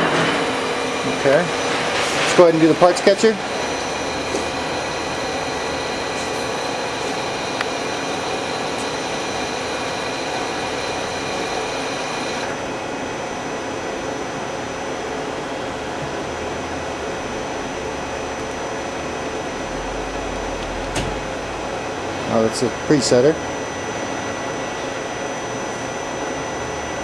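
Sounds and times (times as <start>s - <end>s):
machine hum with high whine: 0.0s - 27.0s.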